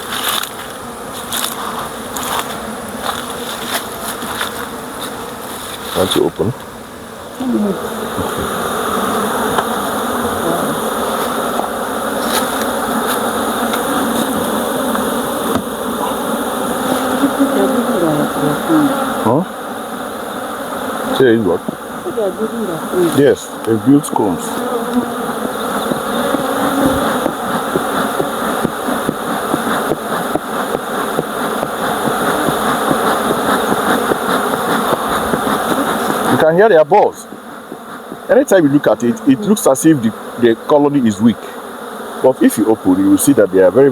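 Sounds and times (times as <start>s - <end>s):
bees buzzing: 0.0s - 43.9s.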